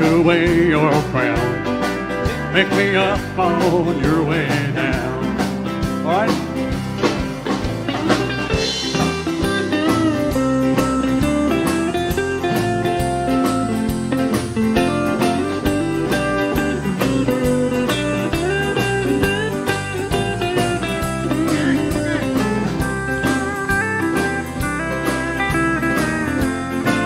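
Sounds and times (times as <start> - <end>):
bass: 0.0 - 27.0
lead electric guitar: 0.0 - 27.0
steady drums: 0.0 - 27.0
strummed acoustic guitar: 0.0 - 27.0.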